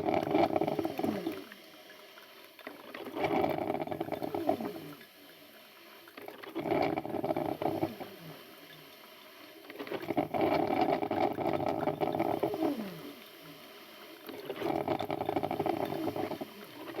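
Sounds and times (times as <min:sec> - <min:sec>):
coffee maker gurgling and sputtering: 0:00.0 - 0:17.0.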